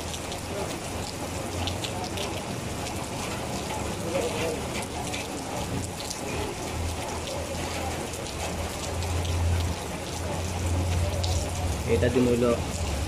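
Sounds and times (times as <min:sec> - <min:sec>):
heavy rain on a wet road: 0:00.0 - 0:13.0.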